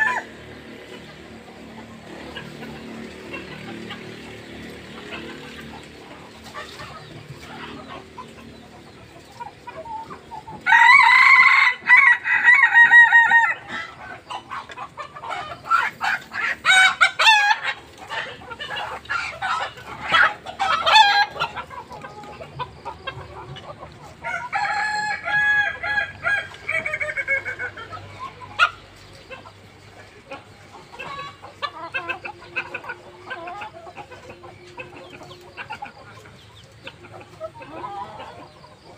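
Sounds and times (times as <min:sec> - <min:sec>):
roosters crowing: 0:00.0 - 0:38.9.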